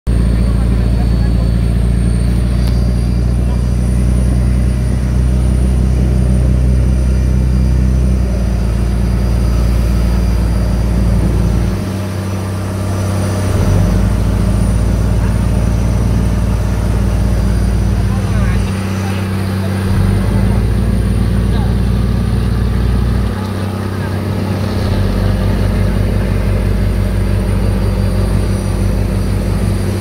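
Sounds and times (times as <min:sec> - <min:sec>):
boat engines droning: 0:00.1 - 0:30.0
water rushing around hull: 0:00.1 - 0:30.0.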